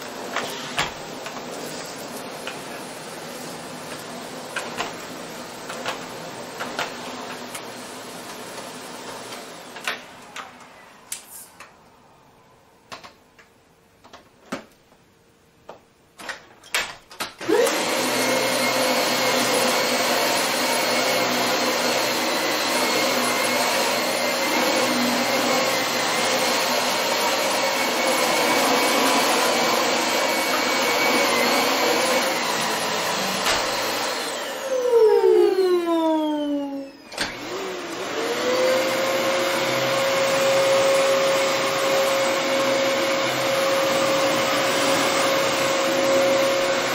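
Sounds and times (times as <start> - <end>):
vacuum cleaner motor whine: 0.0 - 11.0, 17.4 - 46.9.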